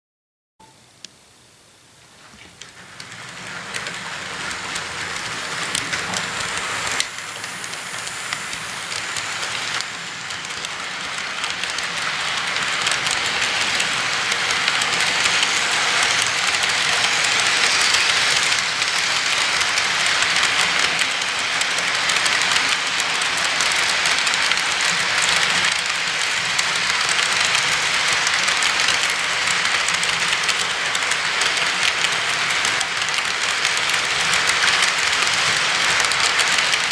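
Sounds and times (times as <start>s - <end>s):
model train wheels clattering on rail: 2.3s - 36.9s.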